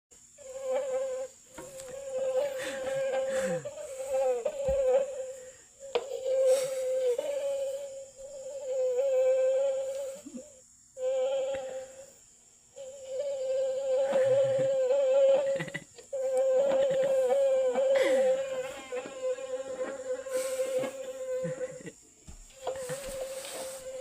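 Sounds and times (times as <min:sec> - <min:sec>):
mosquito buzzing: 0:00.1 - 0:24.0.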